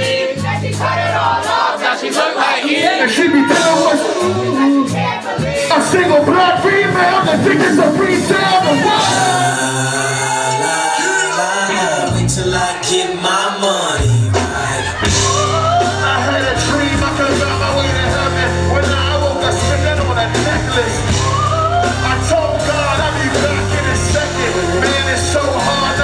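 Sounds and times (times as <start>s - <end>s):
live band playing: 0.0s - 26.0s
person singing: 2.3s - 26.0s.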